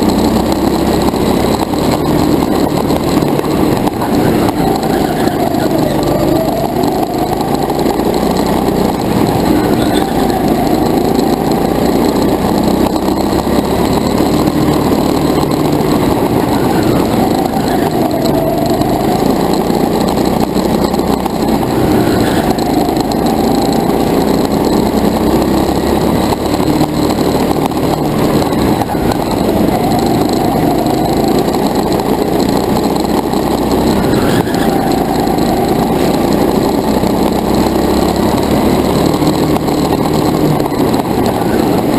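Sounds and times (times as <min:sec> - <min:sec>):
go-kart engine revving: 0:00.0 - 0:41.9.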